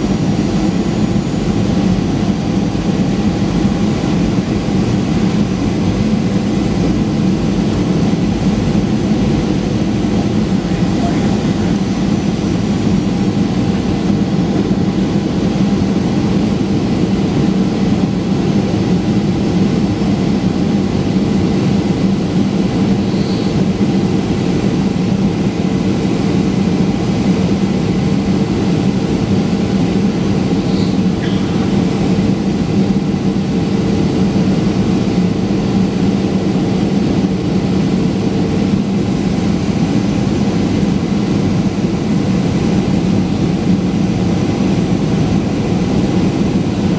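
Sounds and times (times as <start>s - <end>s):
jet engine low hum: 0.0s - 46.9s.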